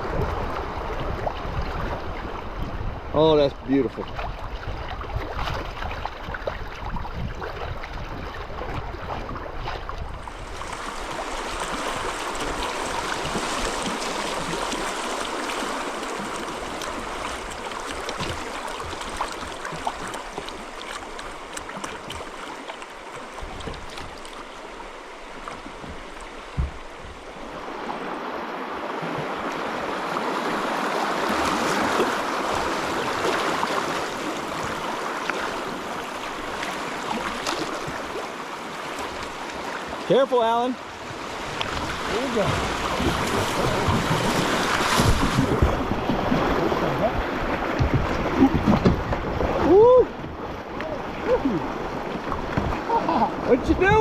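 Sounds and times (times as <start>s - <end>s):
river water rushing: 10.1s - 54.0s.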